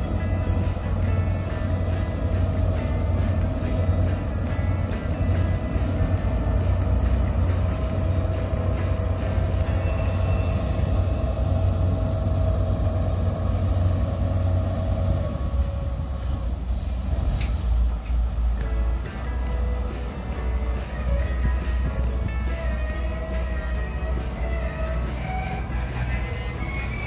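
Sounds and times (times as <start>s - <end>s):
boat engine low rumble: 0.0s - 27.0s.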